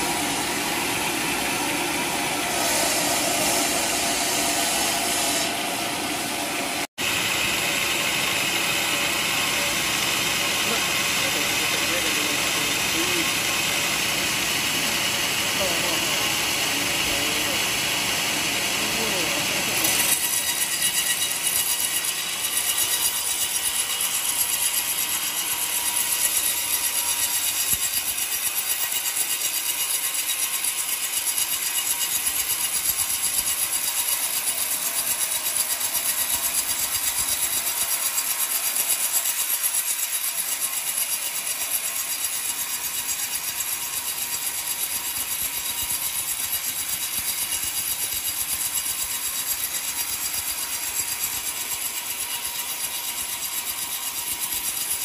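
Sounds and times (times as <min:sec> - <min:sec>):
band saw blade cutting log: 0:00.0 - 0:55.0.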